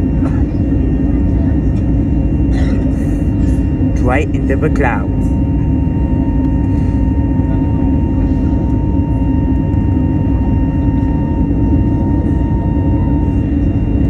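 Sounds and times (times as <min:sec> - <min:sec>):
jet engines heard from cabin: 0:00.0 - 0:14.0.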